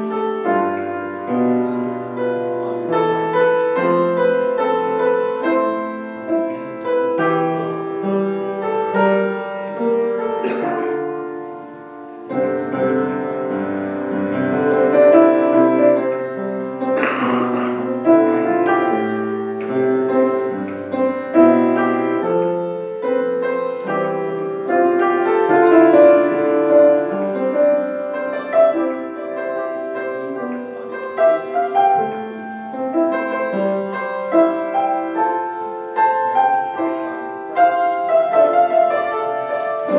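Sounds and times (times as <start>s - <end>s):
slow piano piece: 0.0s - 39.9s.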